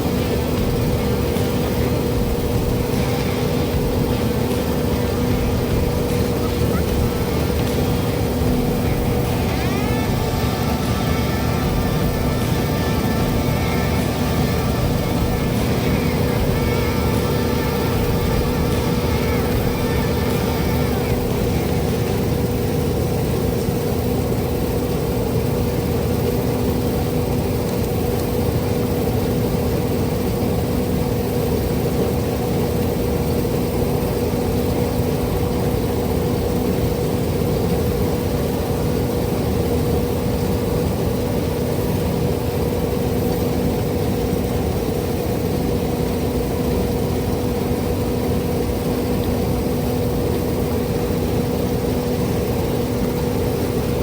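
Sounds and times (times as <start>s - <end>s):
motor running with steady hum: 0.0s - 54.0s.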